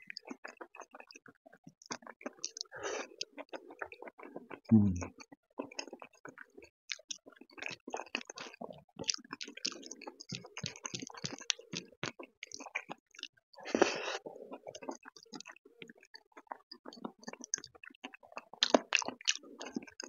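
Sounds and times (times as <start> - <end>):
wet chewing and mouth clicks: 0.0 - 20.0.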